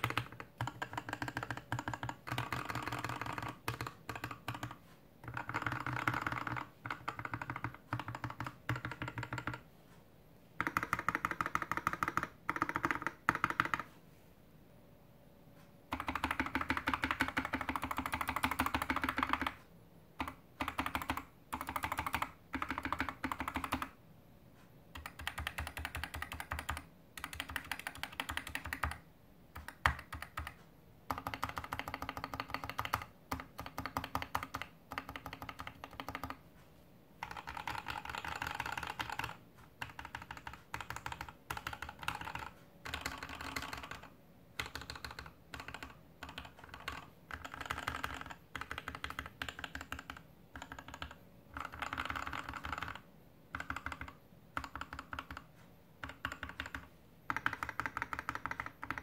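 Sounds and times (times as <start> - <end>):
mechanical keyboard keystrokes: 0.0 - 9.6, 10.6 - 13.9, 15.9 - 19.6, 20.2 - 24.0, 24.9 - 36.4, 37.2 - 59.0.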